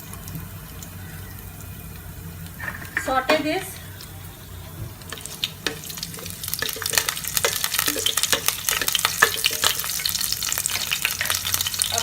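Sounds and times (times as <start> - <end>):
spices crackling in hot oil: 0.0 - 12.0.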